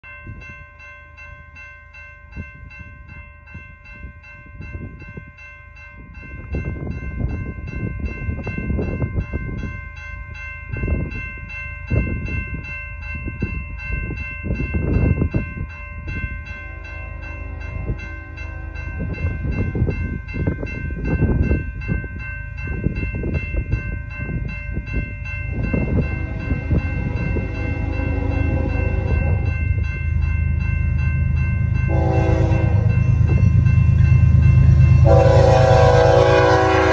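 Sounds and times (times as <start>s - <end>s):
distant freight train: 0.0s - 36.9s
high ringing tone: 0.0s - 36.9s
wind buffeting microphone: 2.3s - 36.9s.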